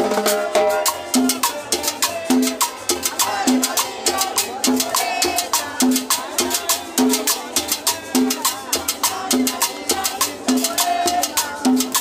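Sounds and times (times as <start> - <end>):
sharp percussion strikes: 0.0 - 12.0.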